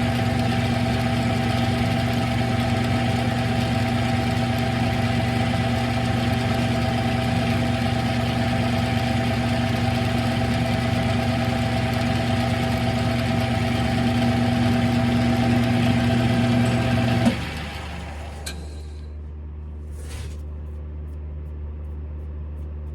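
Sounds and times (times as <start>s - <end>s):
lathe motor hum and gear whine: 0.0s - 19.0s.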